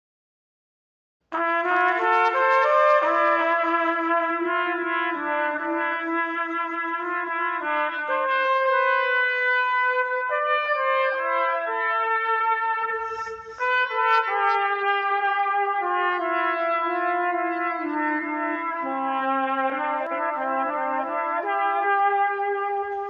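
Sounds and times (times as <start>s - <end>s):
trumpets playing in harmony: 1.3s - 23.0s.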